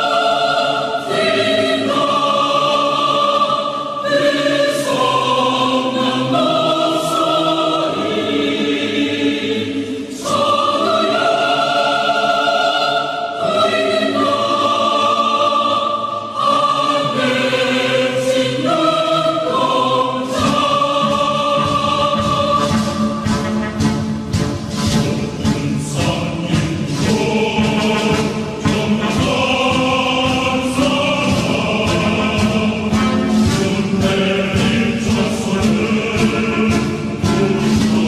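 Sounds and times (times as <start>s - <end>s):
slow choir-like chords: 0.0s - 24.0s, 25.0s - 38.0s.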